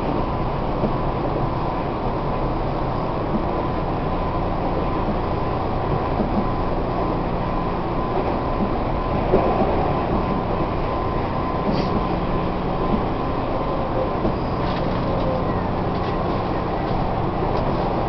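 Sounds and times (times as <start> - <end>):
train running noise inside car: 0.0 - 18.0.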